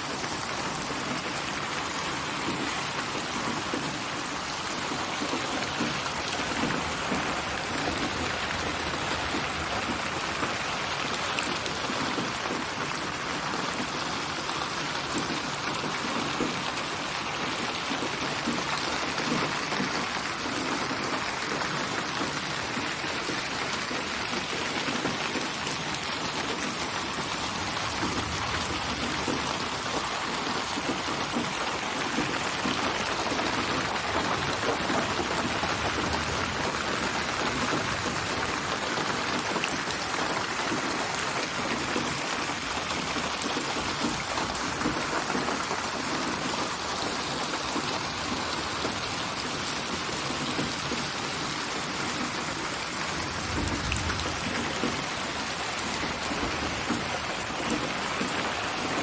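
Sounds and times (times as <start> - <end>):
rain pattering on surfaces: 0.0 - 59.0.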